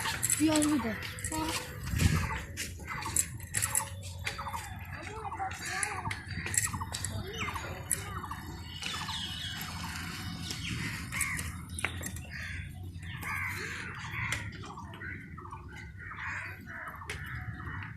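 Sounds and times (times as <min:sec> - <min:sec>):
birds calling: 0:00.0 - 0:17.9.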